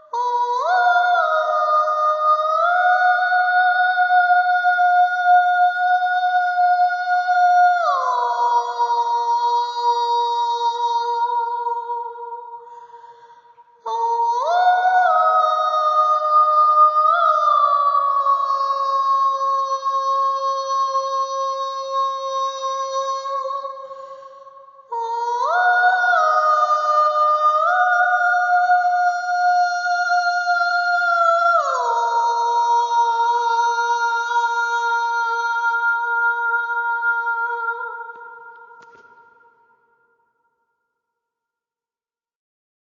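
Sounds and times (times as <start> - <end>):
soprano voice singing: 0.0 - 12.4, 13.8 - 24.2, 24.9 - 38.2.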